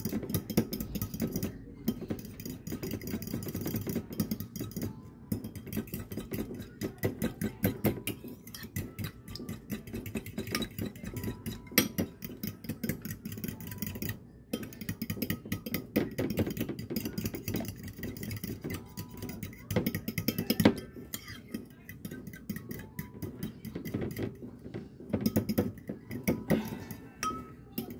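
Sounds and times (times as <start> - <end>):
fork beating eggs in a bowl: 0.0 - 27.9.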